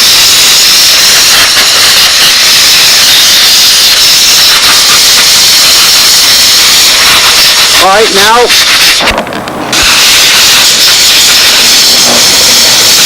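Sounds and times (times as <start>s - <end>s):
steam jet hissing: 0.0s - 13.0s.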